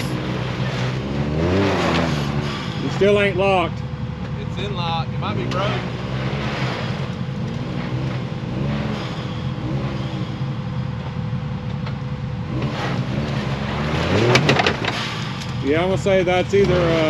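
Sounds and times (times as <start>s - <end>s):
engine running and revving: 0.0s - 17.0s.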